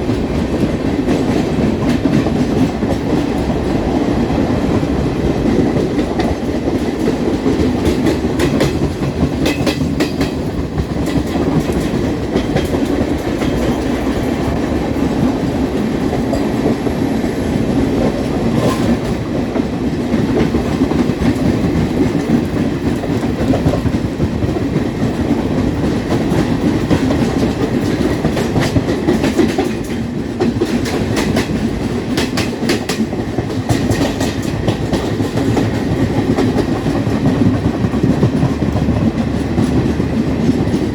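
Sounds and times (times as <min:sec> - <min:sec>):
clickety-clack over rail joints: 0:00.0 - 0:40.9
train wheels rumbling on rail: 0:00.0 - 0:40.9.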